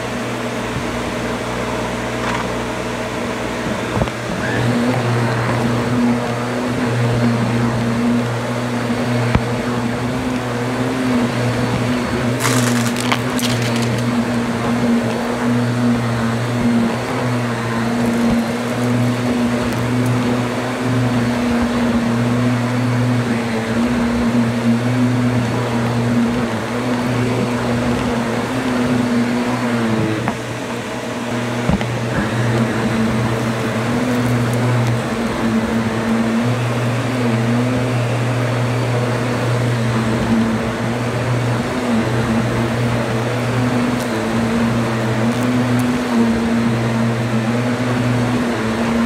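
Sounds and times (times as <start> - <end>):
vacuum cleaner motor hum: 0.0 - 49.0.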